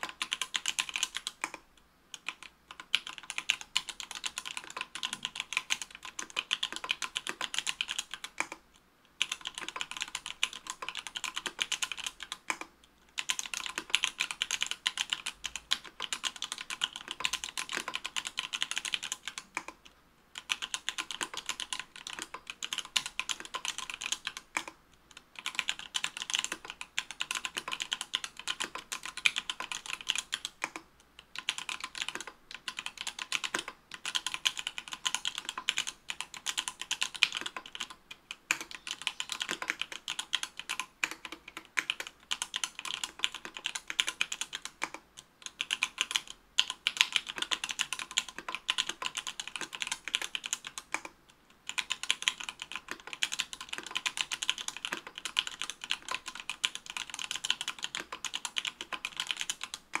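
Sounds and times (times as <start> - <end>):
mechanical keyboard typing: 0.0 - 1.6, 2.2 - 8.6, 9.2 - 60.0.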